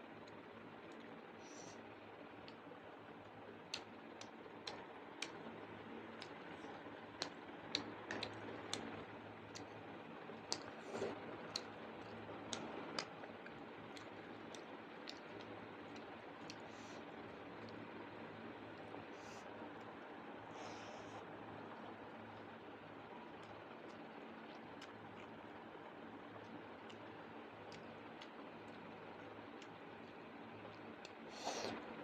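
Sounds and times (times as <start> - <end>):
faint background hum: 0.0 - 32.0
eating clicks and smacks: 0.2 - 1.2, 2.4 - 20.0, 21.7 - 31.9.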